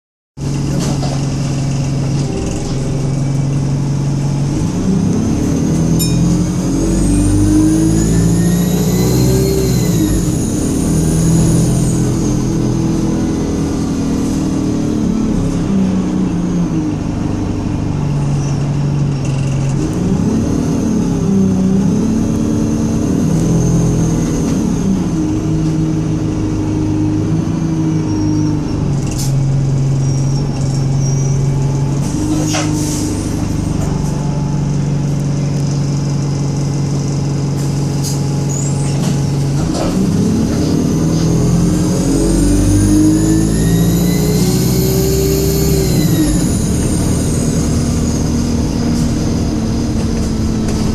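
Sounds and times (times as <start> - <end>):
bus engine revving: 0.4 - 50.9.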